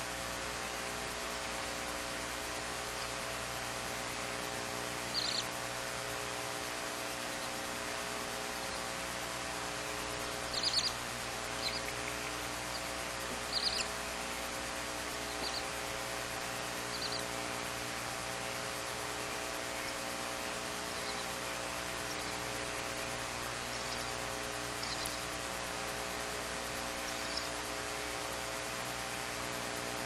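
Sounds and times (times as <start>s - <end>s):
electrical hum and hiss: 0.0s - 30.0s
owl chick peeping: 2.7s - 6.3s, 7.0s - 28.2s.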